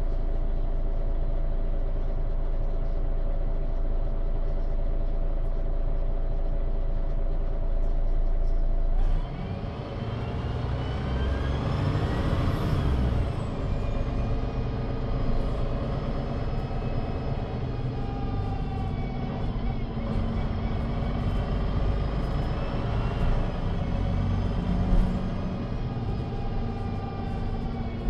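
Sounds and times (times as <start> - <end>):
bus diesel engine: 0.0 - 28.0.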